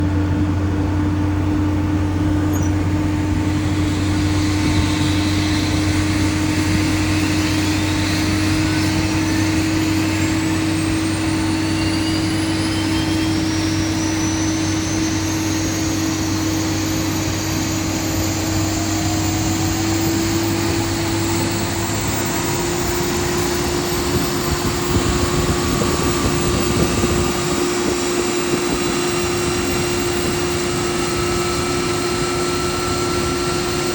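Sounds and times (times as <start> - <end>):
jet engine spooling up: 0.0 - 33.9
low drone: 0.0 - 33.9.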